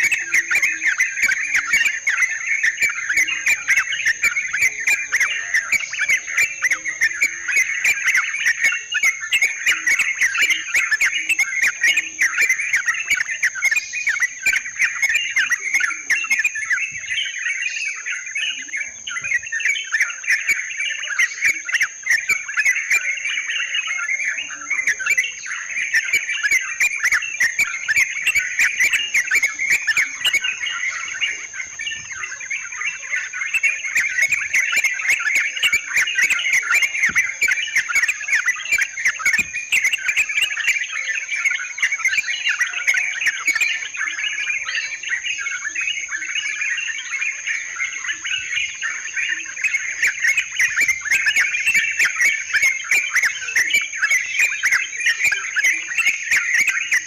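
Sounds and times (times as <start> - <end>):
birds chattering: 0.0 - 57.0.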